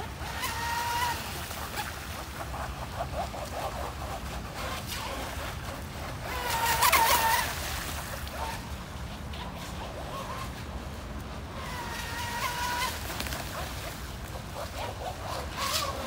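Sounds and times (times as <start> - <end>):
model boat motor whine: 0.0 - 16.0.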